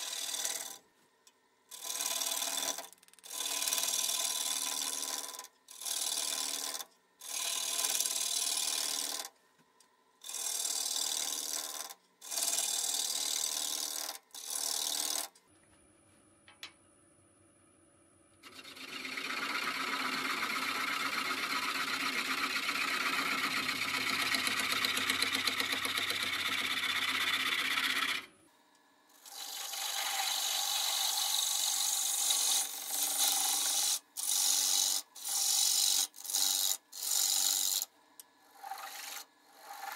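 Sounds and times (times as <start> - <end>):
gouge scraping wood on lathe: 0.0 - 0.8, 1.7 - 9.3, 10.2 - 15.2, 18.4 - 28.3, 29.2 - 37.8, 38.5 - 39.9.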